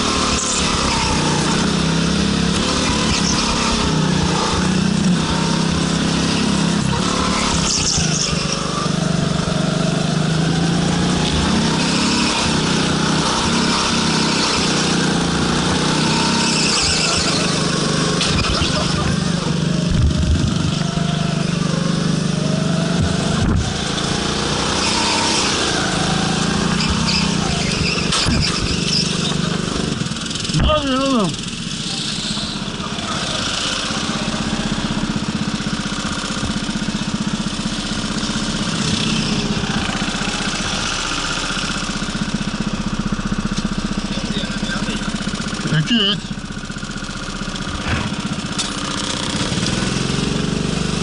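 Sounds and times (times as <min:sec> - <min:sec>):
go-kart engine revving: 0:00.0 - 0:51.0.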